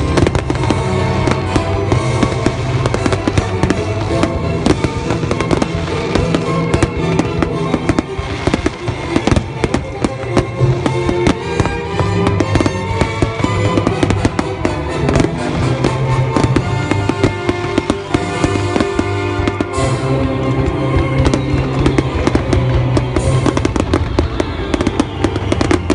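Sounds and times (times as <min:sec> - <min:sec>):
fireworks bursting and crackling: 0:00.0 - 0:25.9
music with sustained notes: 0:00.0 - 0:25.9.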